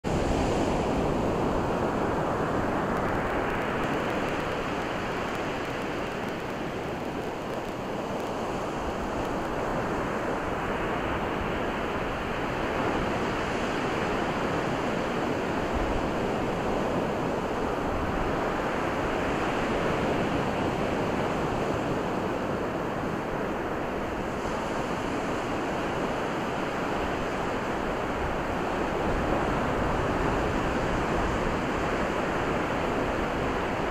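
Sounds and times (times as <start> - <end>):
waves breaking on beach: 0.1 - 33.9.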